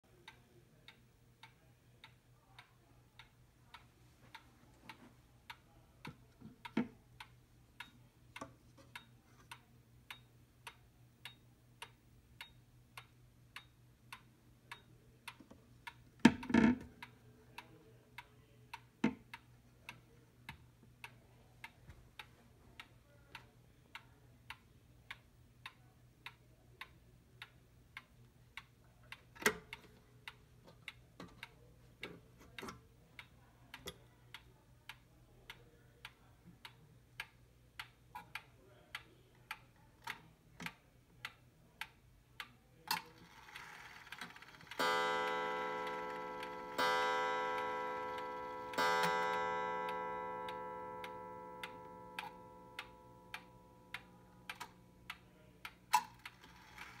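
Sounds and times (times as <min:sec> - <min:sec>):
pendulum clock ticking: 0:00.1 - 0:57.0.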